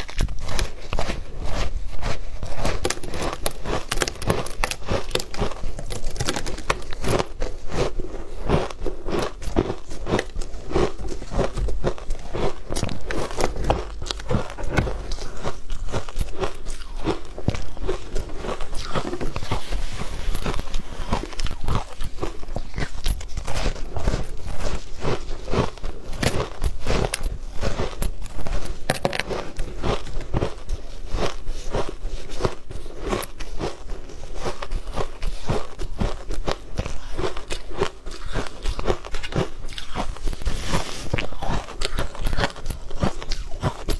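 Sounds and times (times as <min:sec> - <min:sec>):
person crunching shaved ice: 0:00.0 - 0:43.9.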